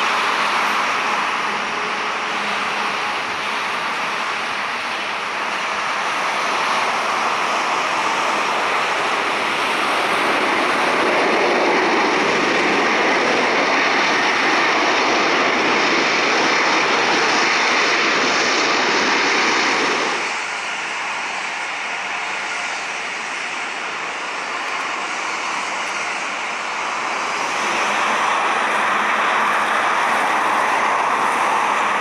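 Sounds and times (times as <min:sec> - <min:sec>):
jet engine rushing: 0:00.0 - 0:32.0.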